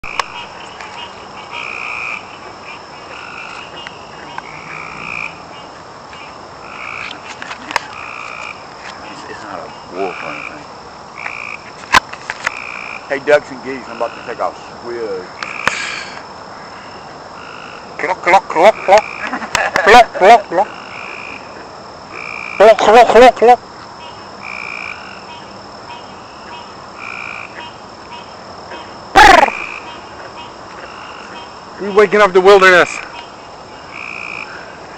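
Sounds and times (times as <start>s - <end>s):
frogs calling in chorus: 0.0s - 34.9s.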